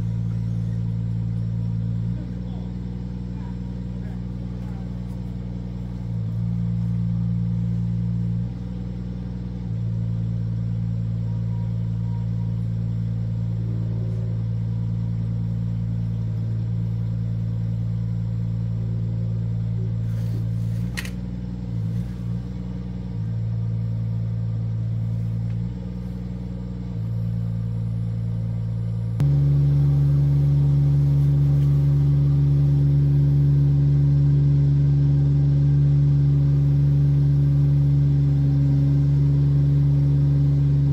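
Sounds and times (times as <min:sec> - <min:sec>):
crane engine running: 0:00.0 - 0:40.9.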